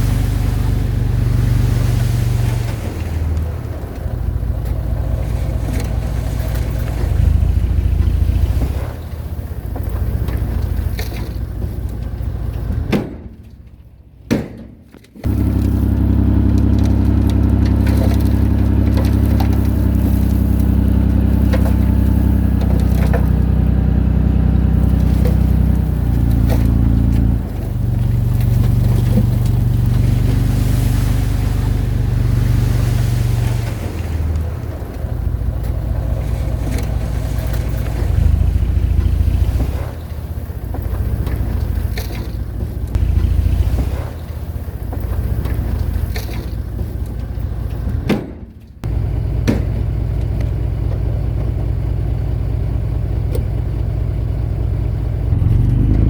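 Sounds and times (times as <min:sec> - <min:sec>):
diesel engine running: 0:00.0 - 0:14.3, 0:15.0 - 0:56.0.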